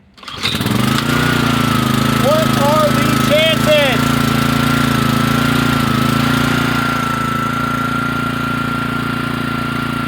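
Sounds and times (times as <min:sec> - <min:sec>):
small engine running: 0:00.2 - 0:10.0.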